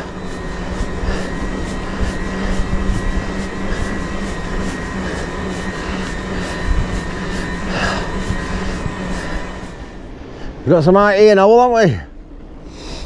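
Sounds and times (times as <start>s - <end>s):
electric bike motor whining: 0.0s - 10.6s
wind rumble on microphone: 0.0s - 10.6s.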